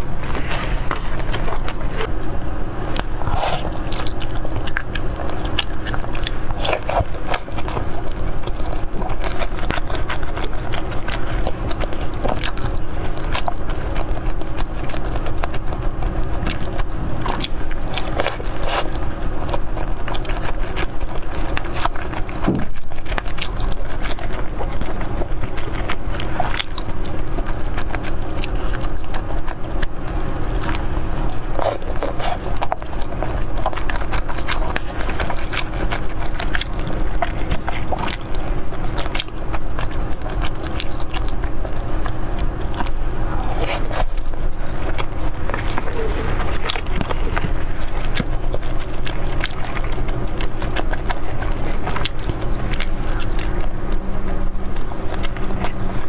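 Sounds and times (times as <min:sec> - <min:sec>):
biting and chewing food: 0:00.0 - 0:56.0
low background hum: 0:00.0 - 0:56.0.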